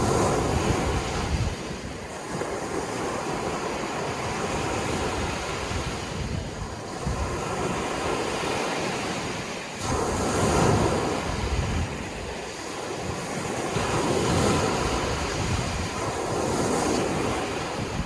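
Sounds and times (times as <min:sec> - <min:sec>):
sea waves breaking: 0:00.0 - 0:18.0
wind on microphone: 0:00.0 - 0:18.0.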